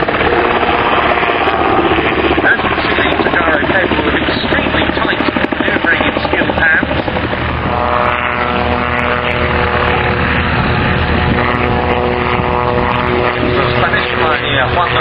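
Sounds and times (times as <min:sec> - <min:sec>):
aircraft engine humming: 0:00.0 - 0:15.0
propeller chopping pulse: 0:00.0 - 0:15.0.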